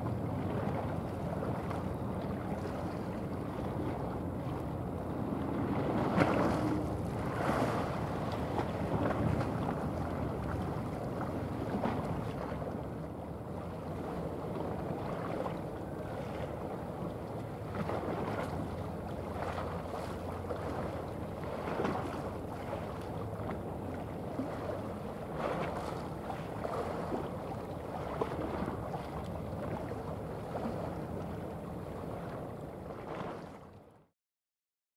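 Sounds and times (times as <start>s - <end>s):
wind buffeting microphone: 0.0s - 33.5s
ship engine hum: 0.0s - 33.9s.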